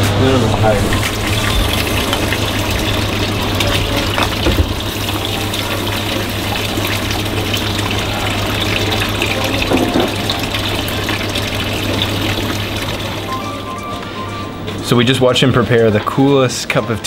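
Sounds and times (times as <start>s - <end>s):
low steady hum: 0.2s - 15.1s
water running: 0.2s - 17.0s.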